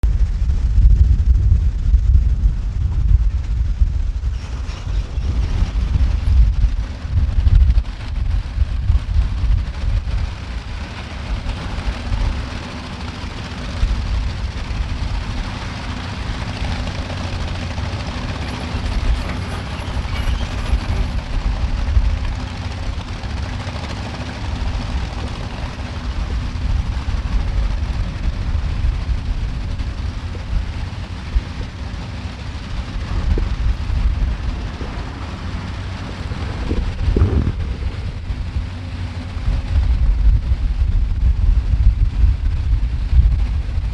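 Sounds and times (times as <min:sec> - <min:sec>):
diesel machinery rumble: 0:00.0 - 0:43.9
wind buffeting microphone: 0:00.0 - 0:43.9.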